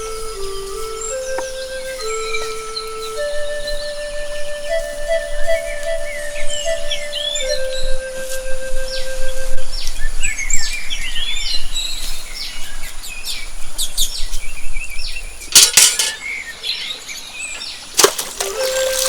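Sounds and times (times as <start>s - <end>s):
birds chirping: 0.0s - 8.2s, 8.8s - 19.0s.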